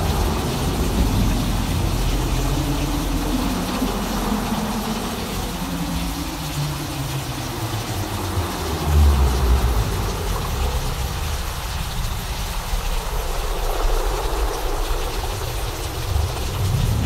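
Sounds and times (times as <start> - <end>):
deep thunder rumble: 0.0 - 17.0
steady noise hiss: 0.0 - 17.0.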